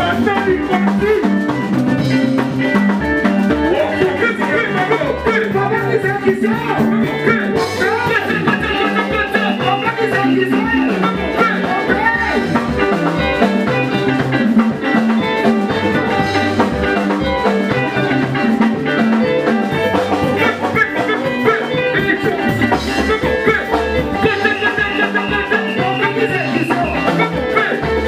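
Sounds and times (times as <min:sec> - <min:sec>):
drums: 0:00.0 - 0:28.0
electric bass: 0:00.0 - 0:28.0
keyboard: 0:00.0 - 0:28.0.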